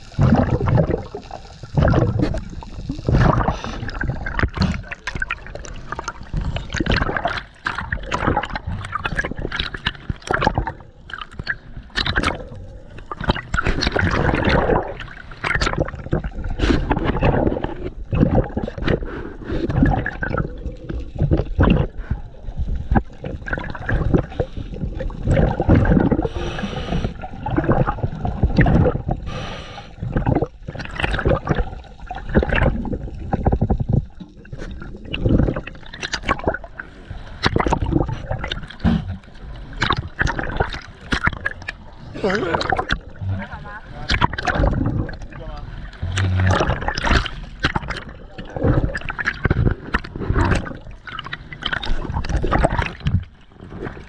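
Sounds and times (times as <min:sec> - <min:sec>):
water splashing and sloshing: 0:00.0 - 0:54.0.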